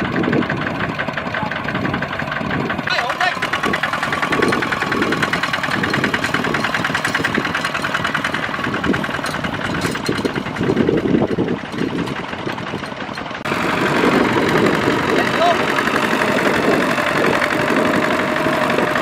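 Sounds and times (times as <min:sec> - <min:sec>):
diesel tiller engine chugging: 0:00.0 - 0:19.0.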